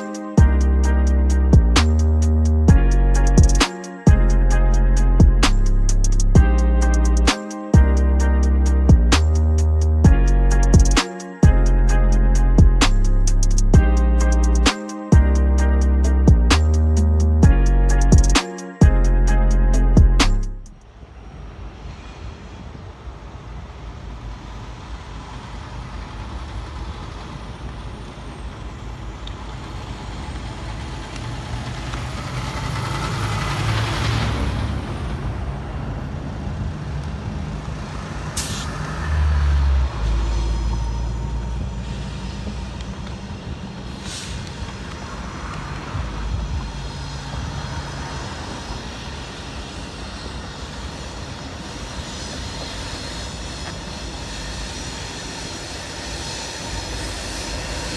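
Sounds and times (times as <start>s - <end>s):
diesel locomotive engine rumble: 0.4s - 57.9s.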